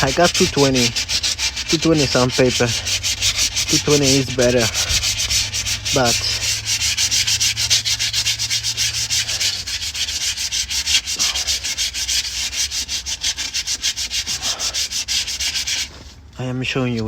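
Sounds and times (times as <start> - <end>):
sandpaper rubbing on metal: 0.0 - 16.2.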